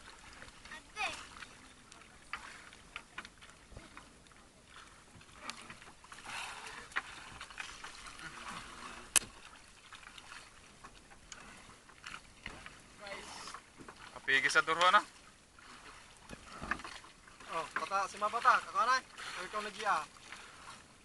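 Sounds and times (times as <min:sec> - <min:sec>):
water splashing against boat: 0:00.0 - 0:21.0.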